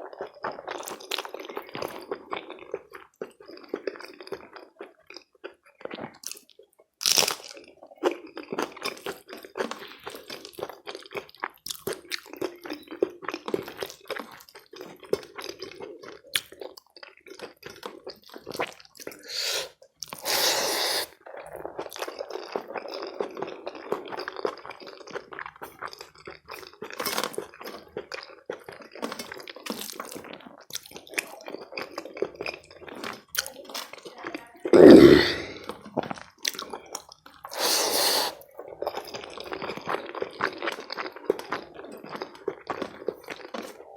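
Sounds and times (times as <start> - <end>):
wet chewing with crunchy bites: 0.0 - 43.9.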